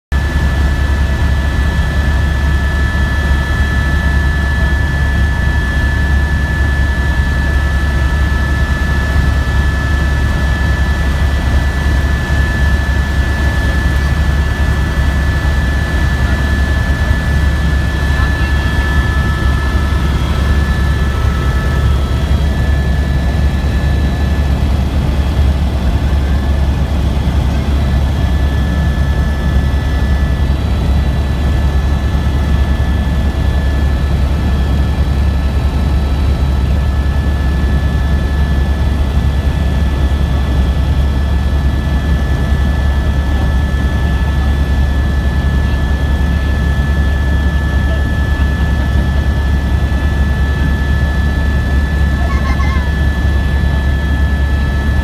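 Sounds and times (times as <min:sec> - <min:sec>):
constant high whine: 0:00.1 - 0:55.0
helicopter rotor and engine drone: 0:00.1 - 0:55.0.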